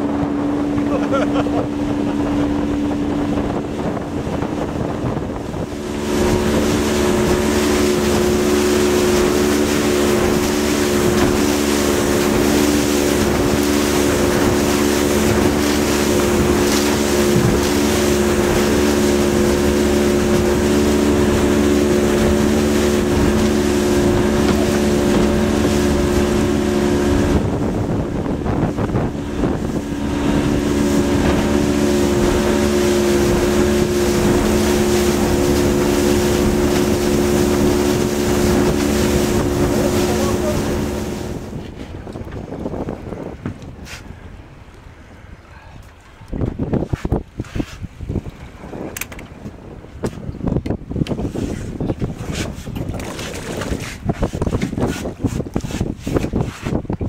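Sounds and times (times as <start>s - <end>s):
small boat engine running: 0.0s - 57.0s
wind and water rushing: 0.0s - 57.0s.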